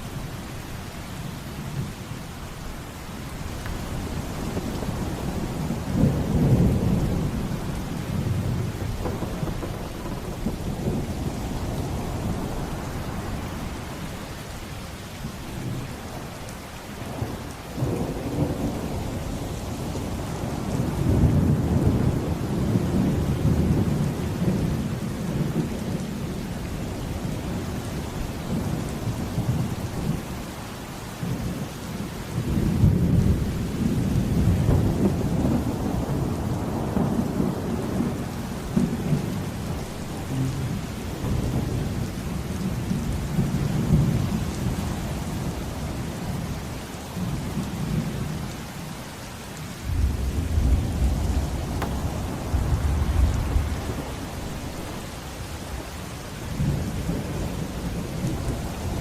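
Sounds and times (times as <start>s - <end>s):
heavy rain: 0.0s - 59.0s
rolling thunder: 3.4s - 14.3s, 15.2s - 46.5s, 49.8s - 59.0s.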